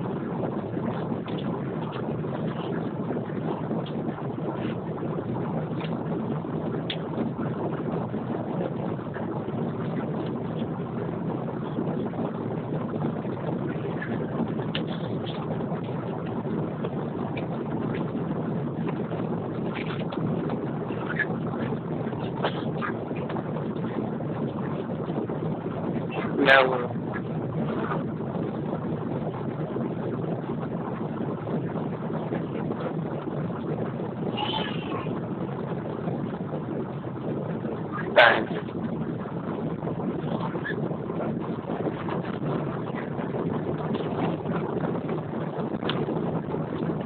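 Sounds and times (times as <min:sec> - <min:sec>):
aircraft cabin engine and air noise: 0:00.0 - 0:47.0.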